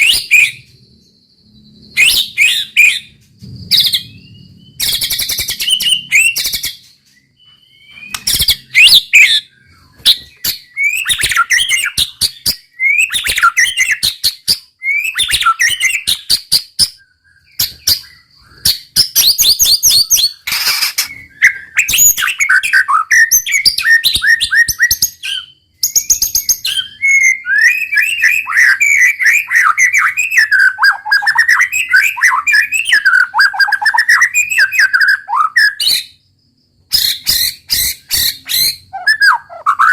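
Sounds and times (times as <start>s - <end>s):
bird singing whistled phrases: 0.0s - 3.1s, 3.7s - 36.2s, 36.9s - 39.9s.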